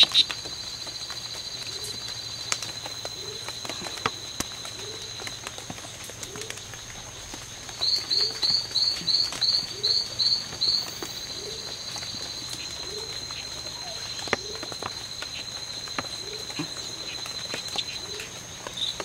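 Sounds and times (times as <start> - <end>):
high insect tones: 0.0 - 19.0.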